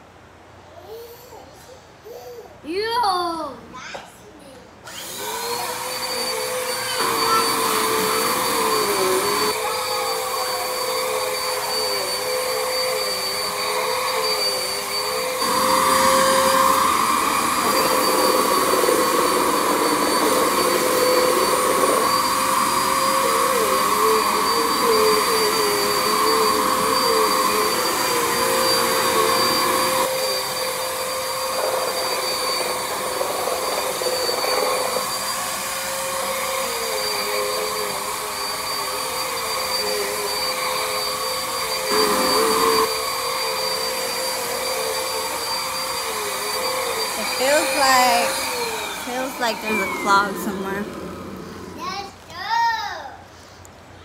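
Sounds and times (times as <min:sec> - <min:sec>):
vacuum cleaner motor whine: 0:04.8 - 0:51.9.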